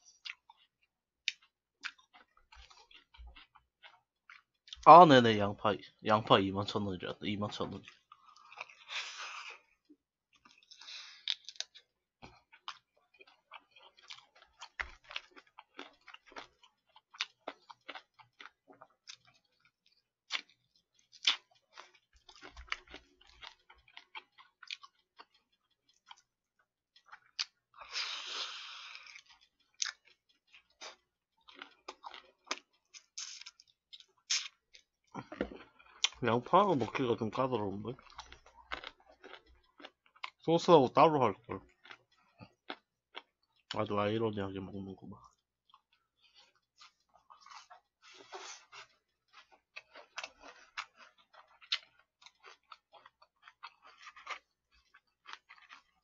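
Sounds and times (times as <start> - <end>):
chewing crispy fried chicken: 0.0 - 56.0.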